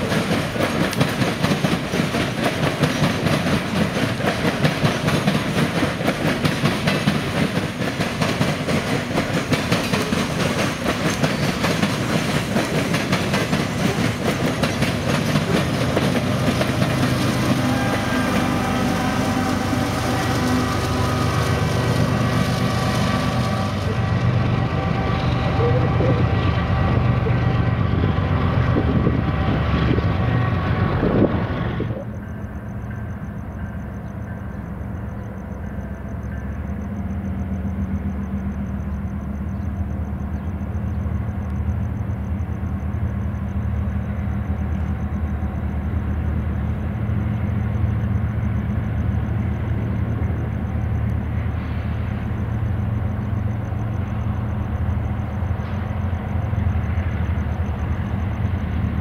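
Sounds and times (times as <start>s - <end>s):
diesel locomotive engine rumble: 0.0s - 59.0s
freight train cars rumbling on rails: 0.0s - 59.0s
steady high rail tones: 0.0s - 59.0s.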